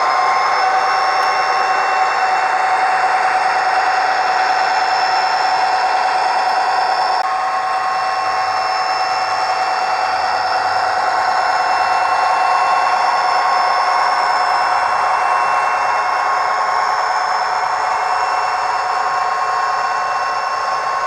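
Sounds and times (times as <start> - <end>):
diesel engine sound through small speaker: 0.0 - 21.0
thin high whine: 0.0 - 21.0.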